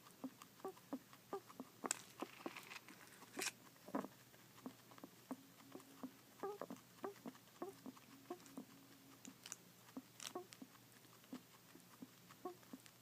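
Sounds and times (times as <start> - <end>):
scratchy sounds: 0.0 - 13.0.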